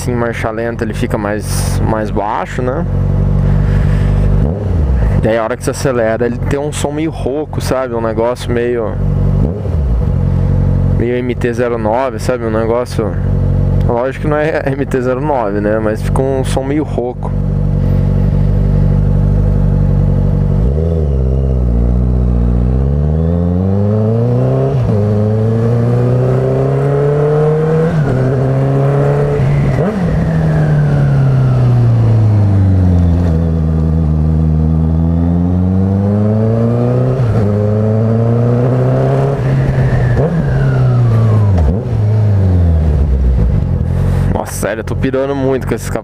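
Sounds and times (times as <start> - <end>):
motorcycle engine accelerating: 1.5 - 6.5, 7.2 - 45.7.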